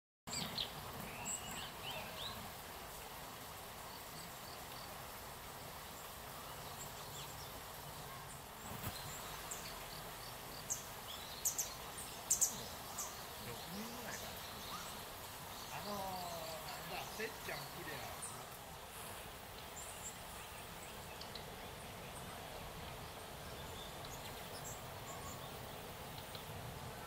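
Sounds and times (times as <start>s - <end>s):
background hiss: 0.3s - 27.0s
small birds chirping: 0.3s - 27.0s.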